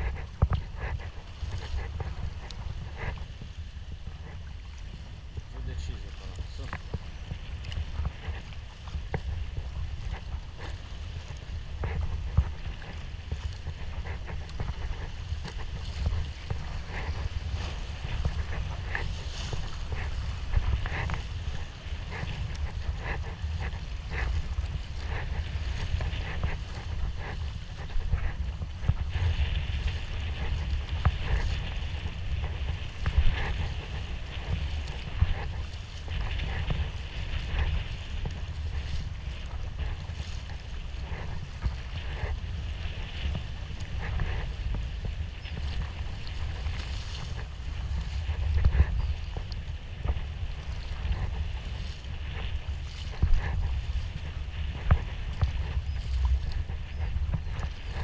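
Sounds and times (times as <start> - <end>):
paddle splashes: 0.0 - 58.0
water splashing around kayak: 0.0 - 58.0
wind rumbling on microphone: 0.0 - 58.0.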